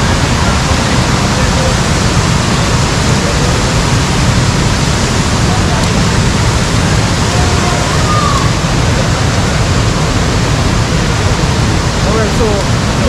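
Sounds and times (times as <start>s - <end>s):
faint distant voices: 0.0s - 13.0s
waterfall rushing: 0.0s - 13.0s.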